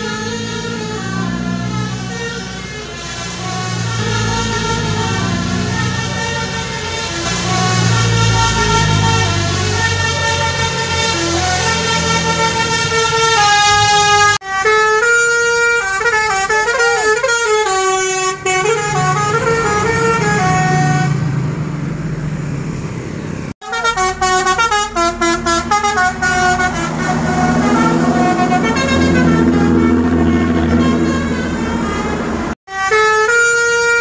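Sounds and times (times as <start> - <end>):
multi-tone bus air horn: 0.0 - 21.2, 23.6 - 34.0
bus engine running: 0.0 - 32.6.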